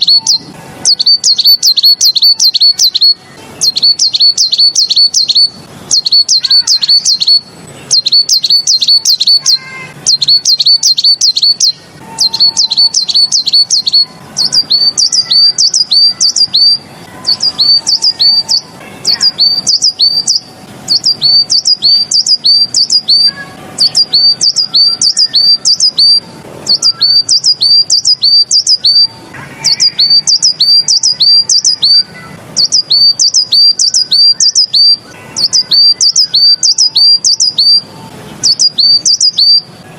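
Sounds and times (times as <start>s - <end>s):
tit singing: 0.0s - 39.9s.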